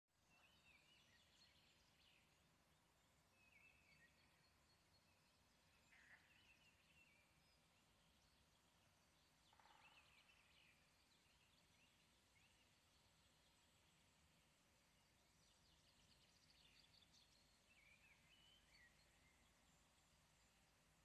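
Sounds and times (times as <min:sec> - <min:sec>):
faint birdsong: 0:00.1 - 0:21.0.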